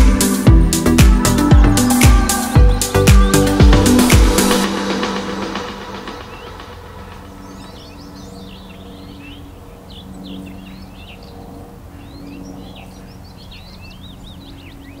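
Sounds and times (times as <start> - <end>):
faint low drone: 0.0 - 14.9
small birds chirping and twittering: 0.0 - 15.0.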